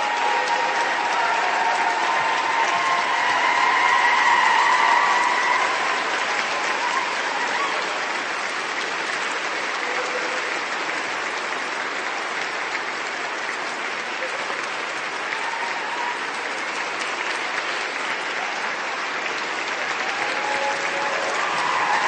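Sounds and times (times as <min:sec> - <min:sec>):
crowd applause: 0:00.0 - 0:22.0
crowd cheering: 0:00.0 - 0:22.0.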